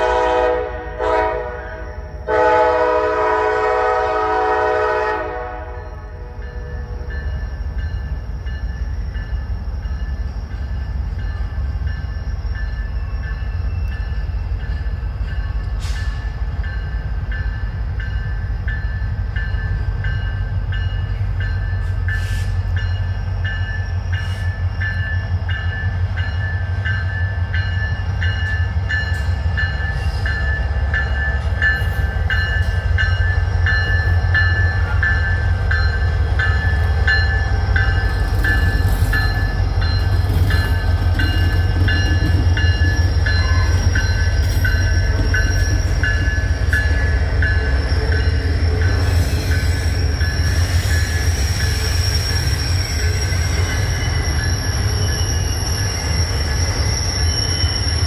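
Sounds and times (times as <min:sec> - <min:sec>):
diesel locomotive engine rumbling: 0:00.0 - 0:58.0.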